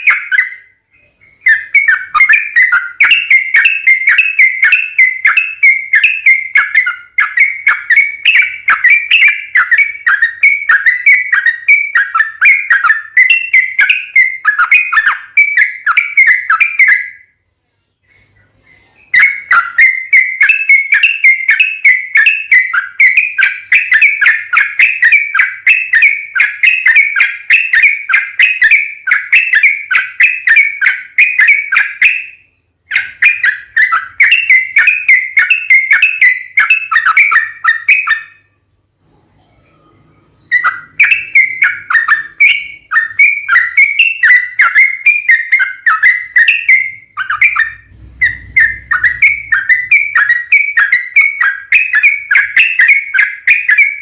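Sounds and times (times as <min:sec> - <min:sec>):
bird singing chattering song: 0:00.0 - 0:54.0.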